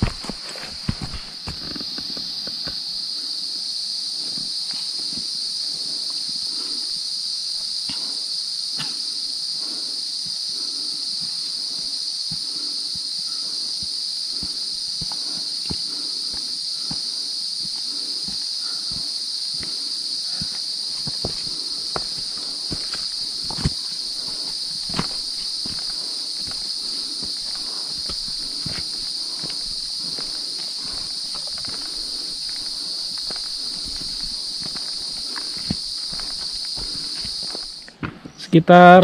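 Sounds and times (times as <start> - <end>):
footsteps on a trail: 0.0 - 3.0, 7.7 - 38.3
insects droning: 0.0 - 39.0.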